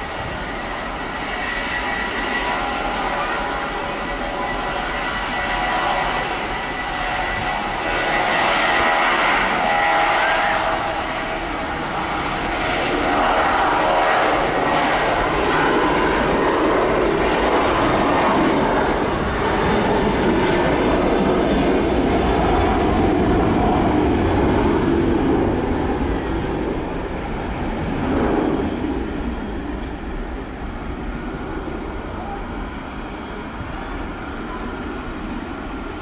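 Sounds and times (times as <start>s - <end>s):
jet engines at takeoff: 0.0s - 36.0s.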